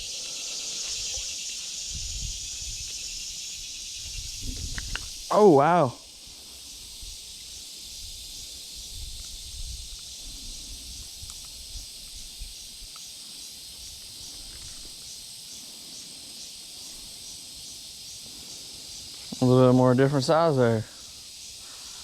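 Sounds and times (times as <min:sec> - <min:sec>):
pulsing insect chorus: 0:00.0 - 0:22.0.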